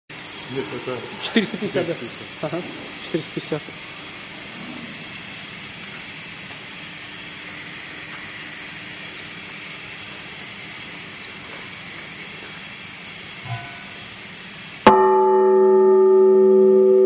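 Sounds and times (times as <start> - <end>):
workshop background hiss: 0.1 - 15.6.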